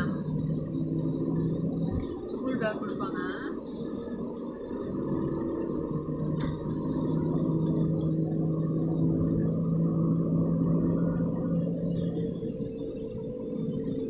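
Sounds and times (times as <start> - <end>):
car engine and road hum: 0.0 - 14.0
low droning tone: 0.0 - 14.0.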